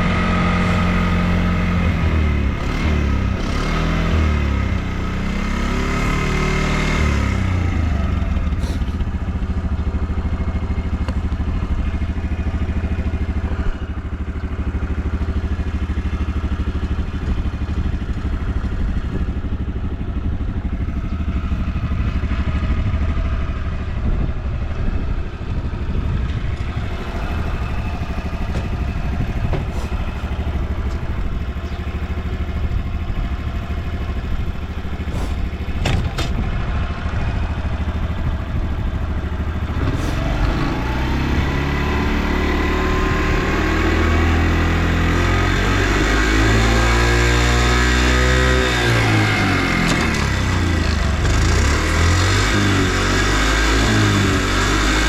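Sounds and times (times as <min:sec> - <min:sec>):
small engine idling and revving: 0:00.0 - 0:55.0.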